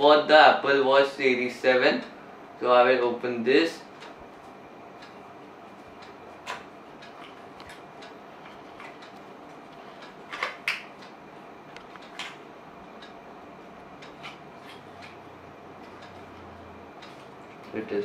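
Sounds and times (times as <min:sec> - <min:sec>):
faint room hiss: 0:00.0 - 0:14.6.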